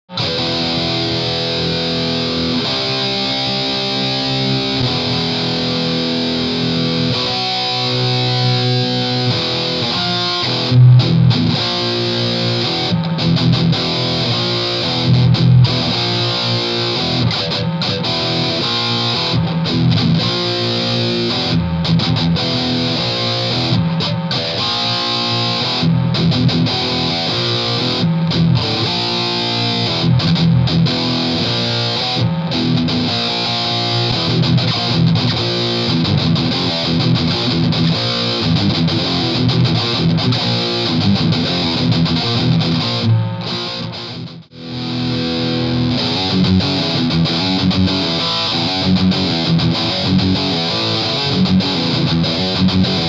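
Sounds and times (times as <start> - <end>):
distorted electric guitar metal riffs: 0.1 - 53.0.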